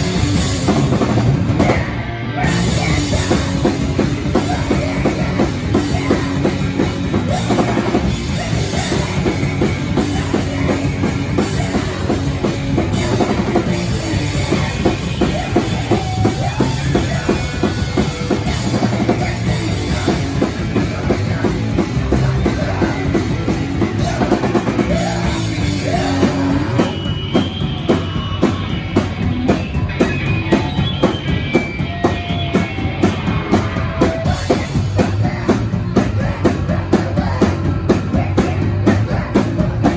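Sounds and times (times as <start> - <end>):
punk band playing live: 0.0 - 39.9.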